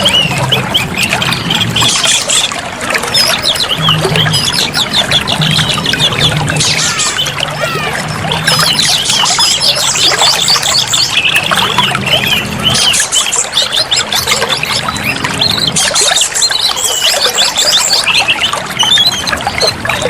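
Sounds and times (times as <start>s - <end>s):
bird singing chirps and whistles: 0.0s - 20.0s
trickle of running water: 0.0s - 20.0s.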